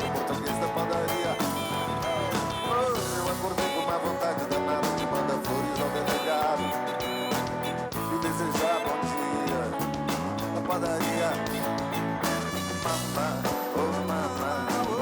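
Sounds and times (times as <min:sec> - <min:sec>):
band music with guitar: 0:00.0 - 0:15.0.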